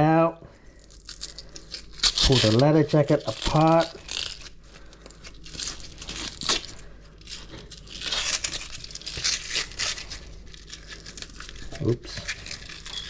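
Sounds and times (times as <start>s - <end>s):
fish skin tearing and crackling: 0.8s - 13.0s.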